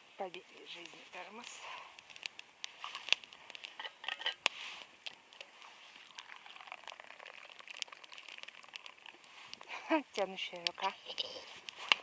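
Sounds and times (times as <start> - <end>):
campfire crackling: 0.0 - 12.0
faint hiss: 0.0 - 12.0
sharp fire pops: 0.3 - 6.1, 7.6 - 12.0.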